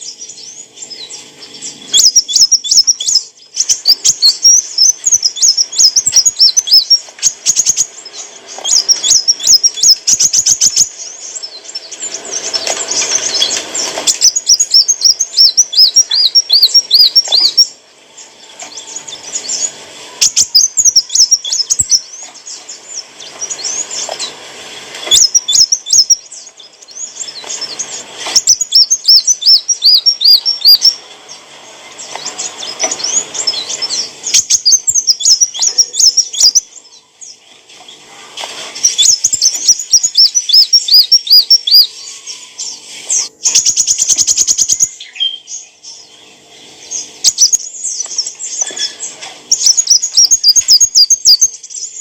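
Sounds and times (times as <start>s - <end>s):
fast bird trill: 0.0s - 17.8s, 18.7s - 24.4s, 25.0s - 31.4s, 32.0s - 36.9s, 38.8s - 46.1s, 46.7s - 52.0s
sunbird chirping: 0.0s - 52.0s.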